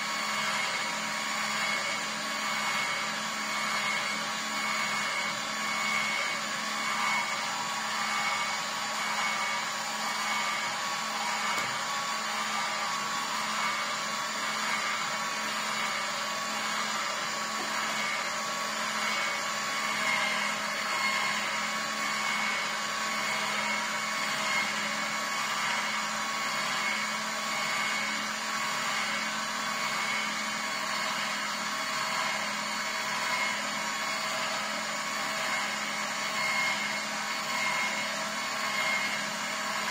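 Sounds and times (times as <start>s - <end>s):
juicer motor humming: 0.0s - 39.9s.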